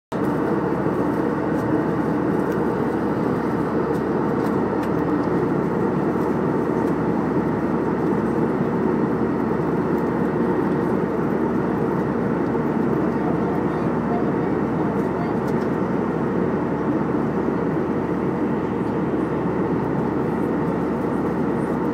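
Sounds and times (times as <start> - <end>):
airliner cabin engine hum: 0.1 - 21.9.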